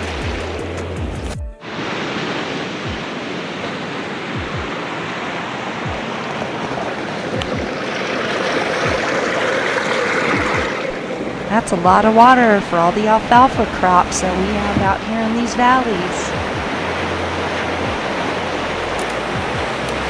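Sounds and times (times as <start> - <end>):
river rushing: 1.6 - 20.0.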